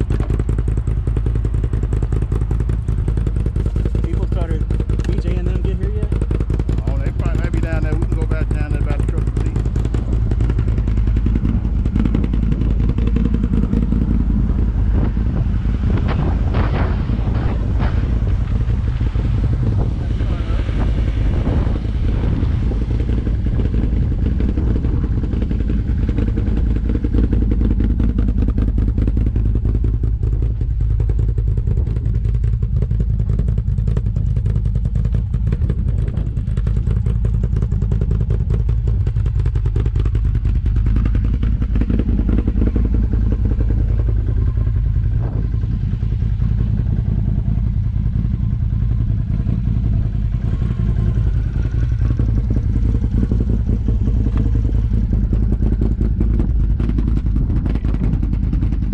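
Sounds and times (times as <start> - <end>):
engine running with clatter: 0.0 - 58.9.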